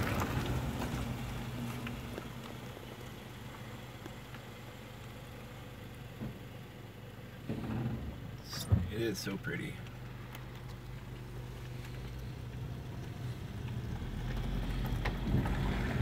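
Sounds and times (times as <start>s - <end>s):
car engine running low: 0.0s - 16.0s
road and wind noise: 0.0s - 16.0s.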